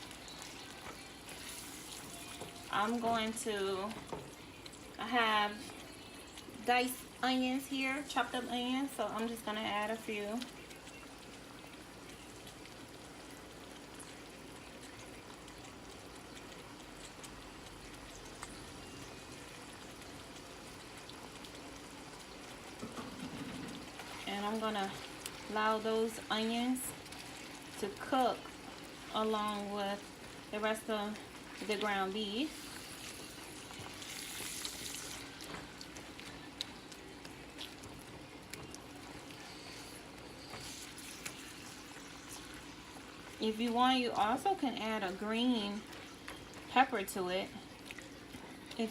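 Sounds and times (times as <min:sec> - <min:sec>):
meat and onions sizzling in a pot: 0:00.0 - 0:48.9.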